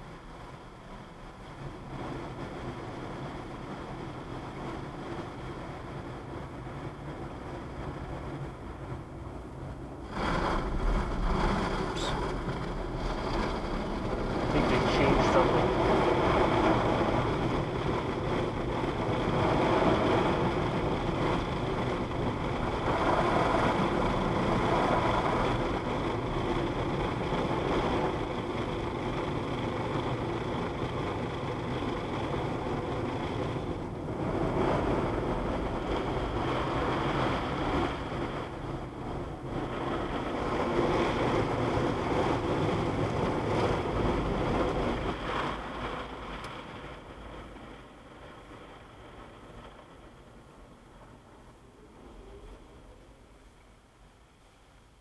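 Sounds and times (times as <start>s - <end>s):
water spraying on a car: 0.0s - 52.8s.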